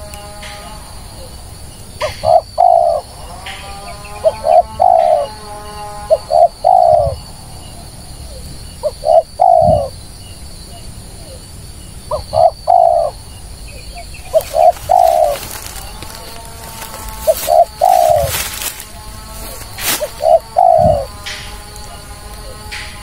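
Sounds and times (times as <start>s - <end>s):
dove cooing: 0.0s - 10.0s, 10.7s - 23.0s.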